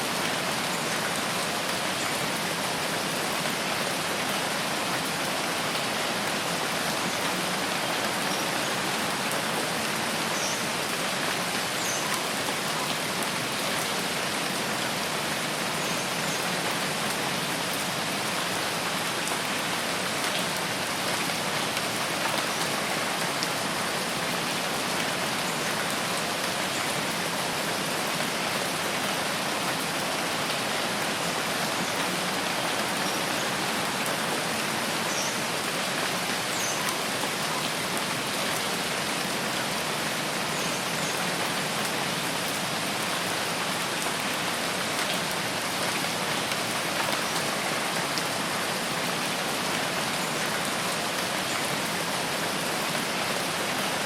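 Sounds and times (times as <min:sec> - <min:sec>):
rain falling in a forest: 0:00.0 - 0:54.0.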